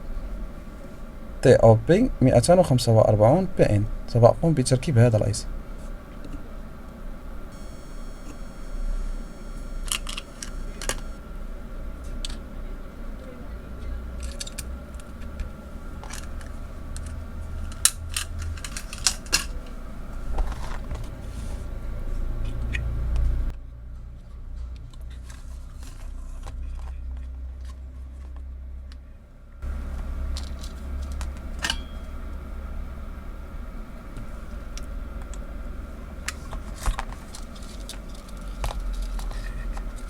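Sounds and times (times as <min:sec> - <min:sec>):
steady low hum: 0:00.0 - 0:23.5, 0:29.6 - 0:40.0.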